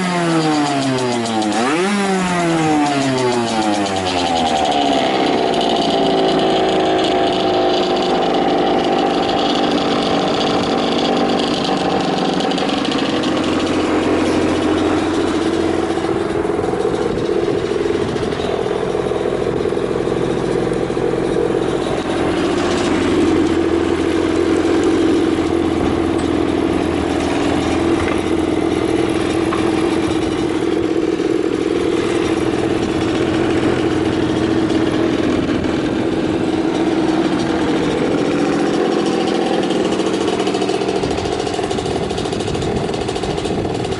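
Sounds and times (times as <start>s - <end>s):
two-stroke motorcycle engine idling: 0.0s - 43.9s.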